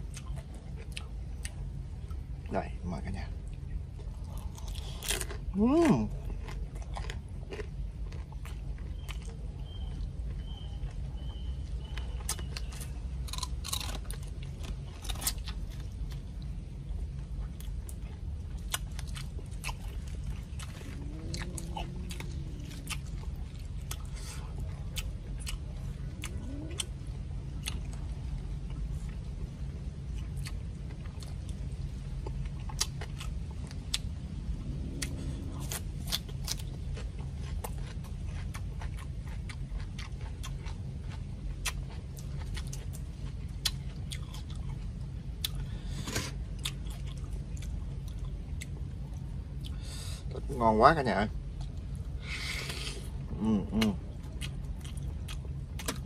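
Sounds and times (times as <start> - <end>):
person chewing and crunching: 0.0 - 2.4, 3.1 - 50.4, 51.4 - 56.0
steady low hum: 0.0 - 56.0.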